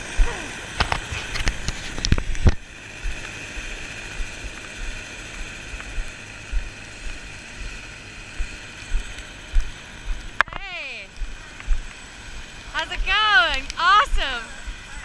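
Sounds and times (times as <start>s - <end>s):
footsteps crunching on snow: 0.0s - 10.4s, 11.2s - 15.0s
steady rushing hiss: 0.0s - 15.0s.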